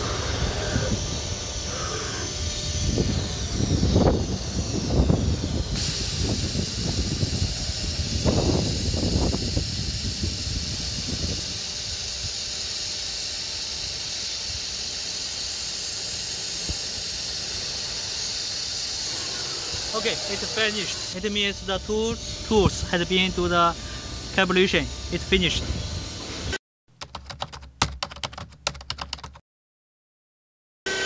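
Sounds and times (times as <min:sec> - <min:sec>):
compressed air hissing: 0:00.0 - 0:26.6.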